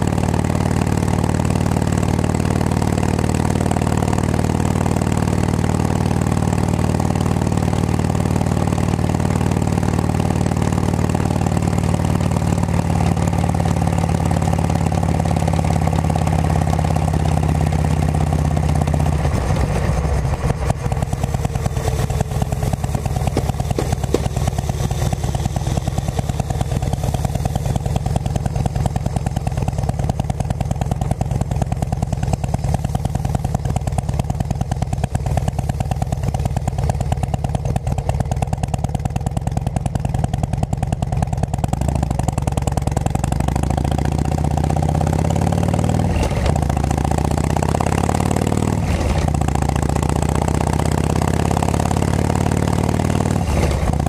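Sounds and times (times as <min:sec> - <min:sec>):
motorcycle engine droning: 0:00.0 - 0:54.0.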